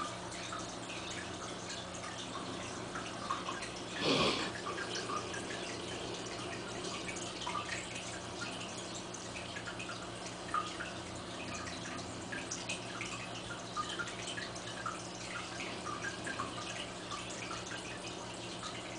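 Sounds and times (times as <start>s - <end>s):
low pump hum: 0.0s - 18.9s
water trickling and bubbling: 0.0s - 18.9s.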